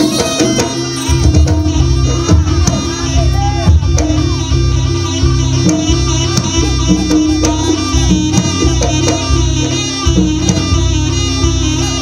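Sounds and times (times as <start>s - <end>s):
fast wind-instrument melody: 0.0s - 12.0s
repeated drum strokes: 0.0s - 12.0s.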